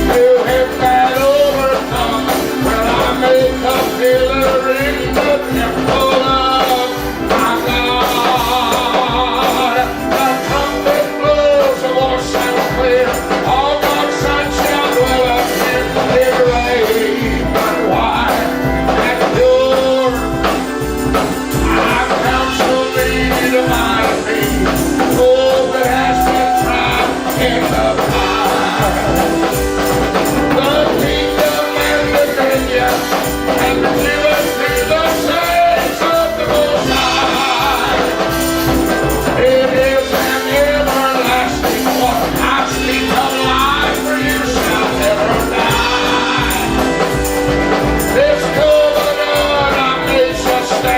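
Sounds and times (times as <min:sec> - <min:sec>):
gospel singing over a band: 0:00.0 - 0:50.9
steady percussion beat: 0:00.0 - 0:50.9.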